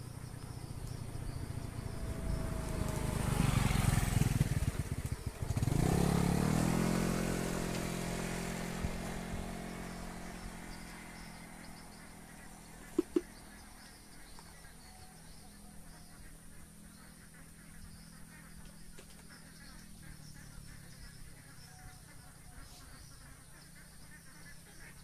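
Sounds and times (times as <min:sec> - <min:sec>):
motorcycle passing by: 0:00.0 - 0:25.0.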